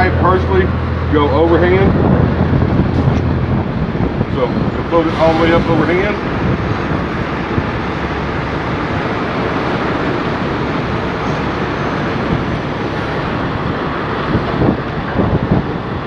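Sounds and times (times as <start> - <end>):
vehicle traffic: 0.0 - 16.0
wind on microphone: 0.0 - 16.0.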